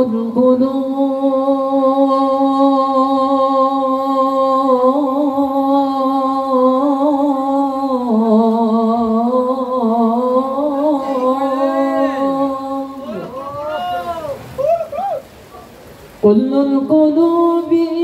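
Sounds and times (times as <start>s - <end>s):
man singing into a microphone: 0.0s - 13.5s, 16.2s - 18.0s.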